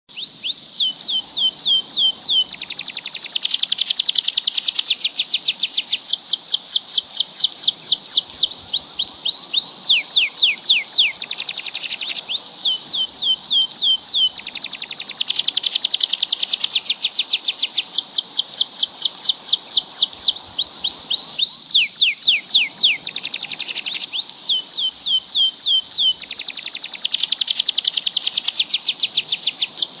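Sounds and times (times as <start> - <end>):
bird song whistles and trills: 0.1 - 30.0.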